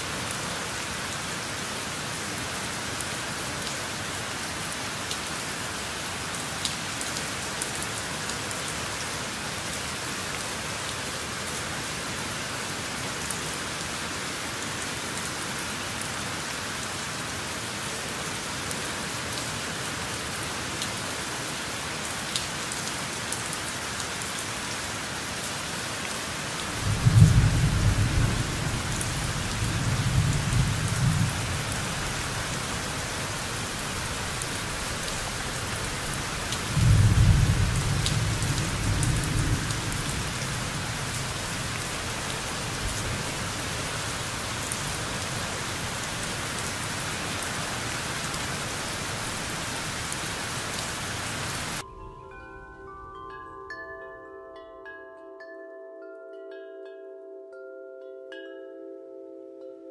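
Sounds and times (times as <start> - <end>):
steady rain falling: 0.0 - 52.5.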